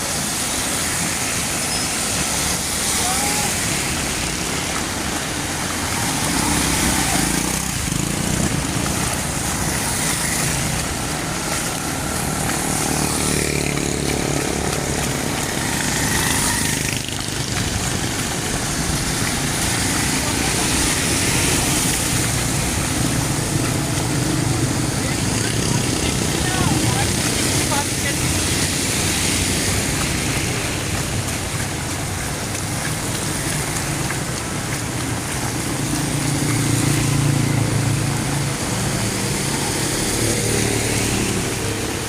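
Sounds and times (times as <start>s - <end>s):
heavy rain falling: 0.0s - 42.0s
traffic on wet street: 0.0s - 42.0s.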